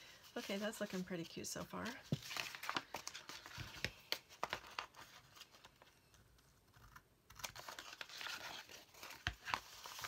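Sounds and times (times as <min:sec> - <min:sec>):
paper rustling and crinkling: 0:00.2 - 0:05.9, 0:07.4 - 0:10.0.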